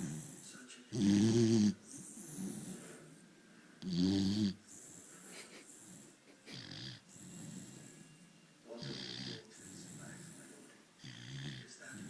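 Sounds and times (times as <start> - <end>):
dog snoring: 0.0 - 3.0, 3.8 - 12.0.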